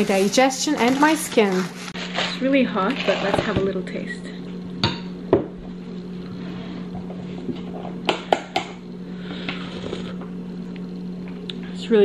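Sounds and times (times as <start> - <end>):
low hum: 1.8 - 12.0.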